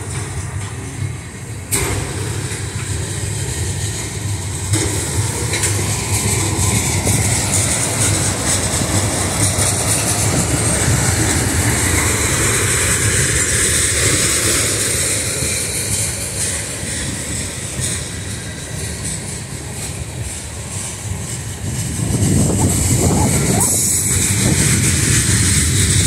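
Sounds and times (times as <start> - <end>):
train wheels rolling on rails: 0.0 - 26.0.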